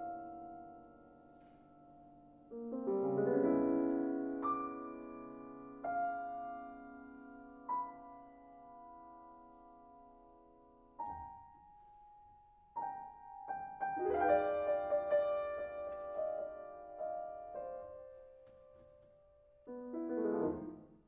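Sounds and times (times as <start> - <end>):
solo piano playing slowly: 0.0 - 21.0.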